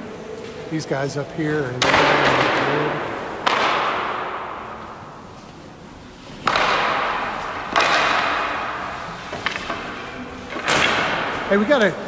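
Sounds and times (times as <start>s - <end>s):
loud construction bangs echoing: 1.6s - 5.7s, 6.3s - 12.0s.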